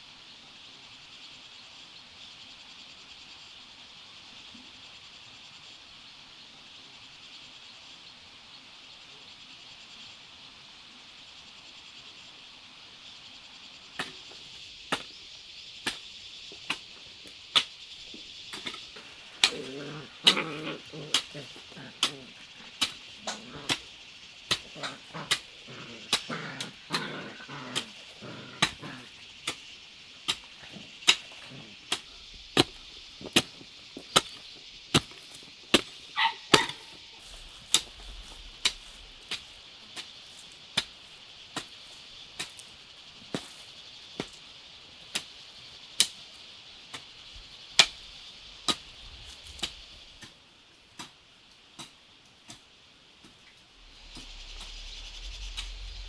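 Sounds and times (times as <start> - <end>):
constant high hiss: 0.0 - 56.0.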